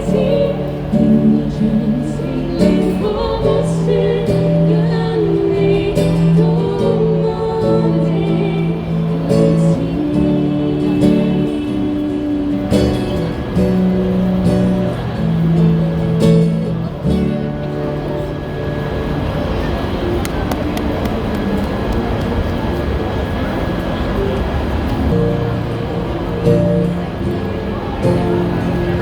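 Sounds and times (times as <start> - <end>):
guitar accompaniment: 0.0 - 29.0.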